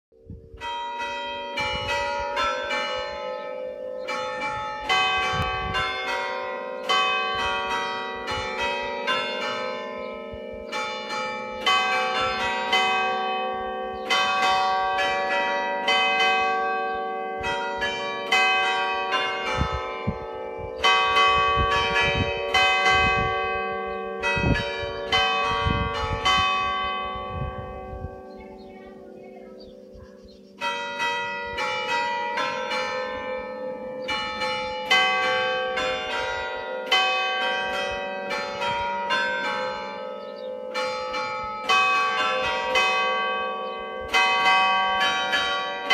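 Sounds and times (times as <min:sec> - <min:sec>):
church bells ringing: 0:00.2 - 0:45.9.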